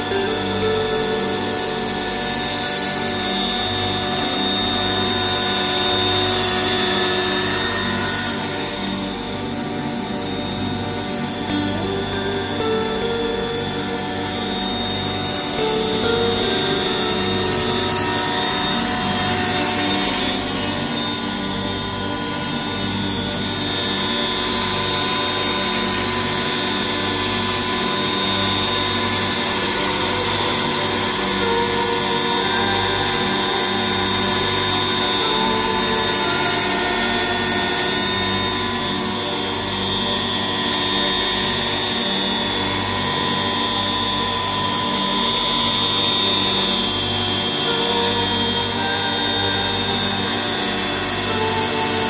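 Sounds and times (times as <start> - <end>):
model helicopter whine and hum: 0.0 - 52.0.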